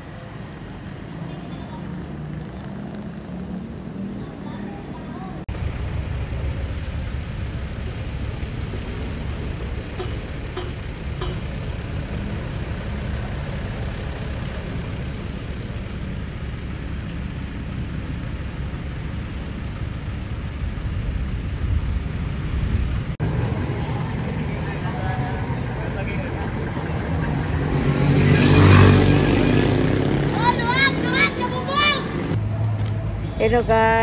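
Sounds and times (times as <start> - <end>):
passing cars rumble: 0.0 - 34.0.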